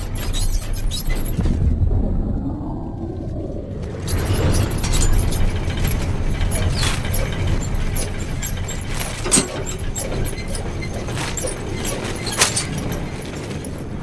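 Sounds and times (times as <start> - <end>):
machinery rumble with metallic clicking: 0.0 - 14.0.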